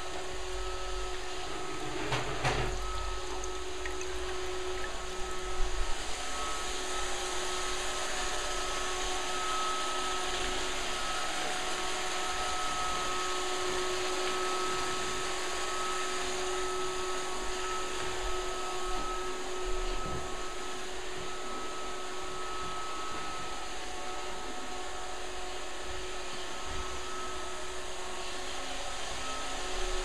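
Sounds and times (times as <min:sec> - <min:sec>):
robot vacuum whirring: 0:00.0 - 0:30.0.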